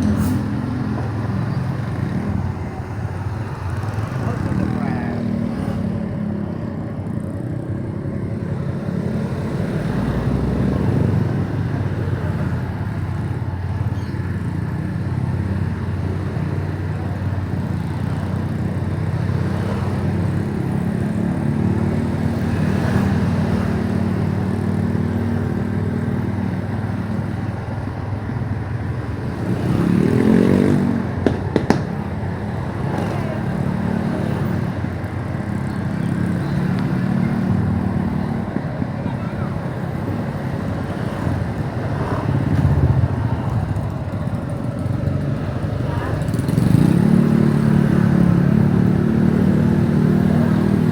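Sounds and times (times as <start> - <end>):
motorcycle engine running: 0.0 - 50.9
road and wind noise: 0.0 - 50.9.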